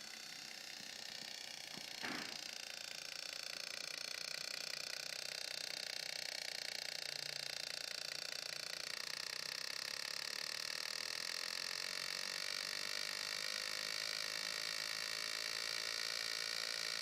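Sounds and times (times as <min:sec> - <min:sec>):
fast ticks from loudspeaker: 0:00.0 - 0:17.0.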